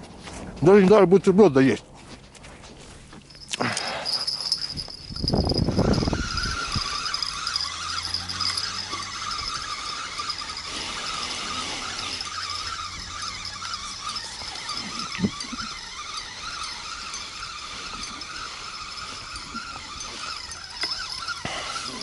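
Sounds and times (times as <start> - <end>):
fishing reel whirring: 3.3 - 22.0.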